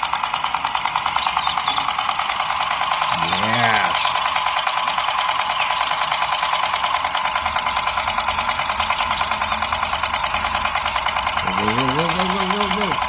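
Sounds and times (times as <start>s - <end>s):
toy tractor motor buzzing: 0.0s - 13.0s.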